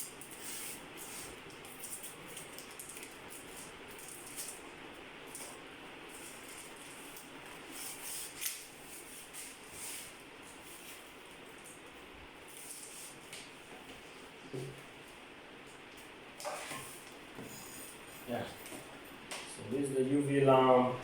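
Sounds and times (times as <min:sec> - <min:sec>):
rustling and scraping of parts: 0:00.0 - 0:19.3.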